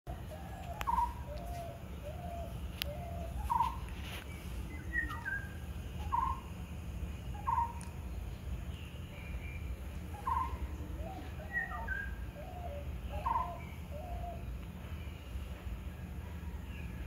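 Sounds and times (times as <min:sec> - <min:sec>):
birds calling: 0:00.1 - 0:17.0.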